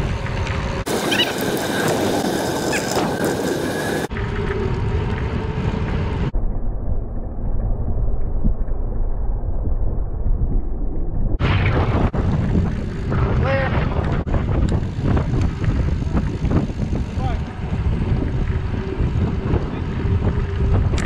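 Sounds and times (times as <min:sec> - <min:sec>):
bicycle tyre noise on trail: 0:00.0 - 0:21.0
wind on microphone: 0:00.0 - 0:21.0.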